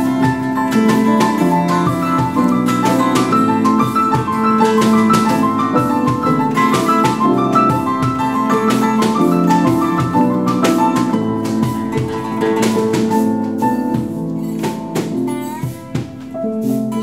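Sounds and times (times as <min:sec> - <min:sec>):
acoustic pop band with piano: 0:00.0 - 0:17.0.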